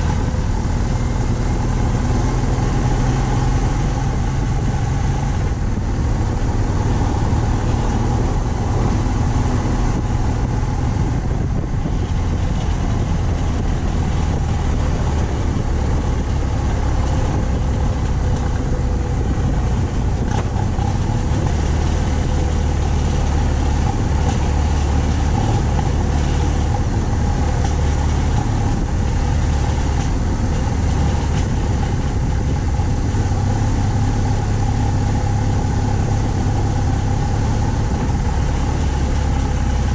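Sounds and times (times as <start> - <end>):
motorcycle engine rumble: 0.0 - 39.9
wind and road noise: 0.0 - 39.9.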